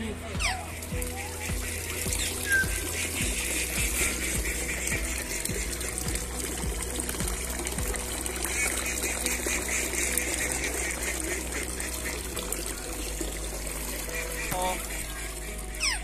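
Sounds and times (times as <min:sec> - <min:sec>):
fountain water splashing into pond: 0:00.0 - 0:16.0.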